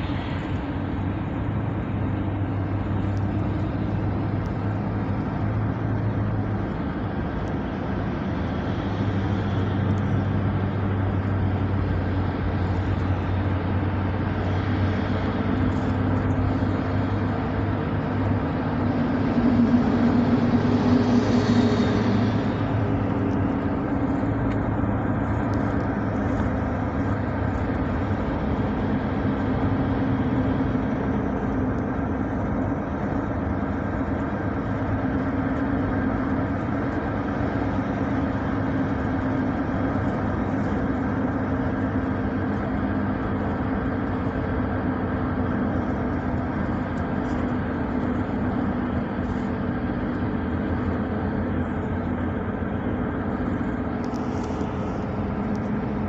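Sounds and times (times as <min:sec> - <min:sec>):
car engine hum: 0:00.0 - 0:56.0
tyre and road noise: 0:00.0 - 0:56.0.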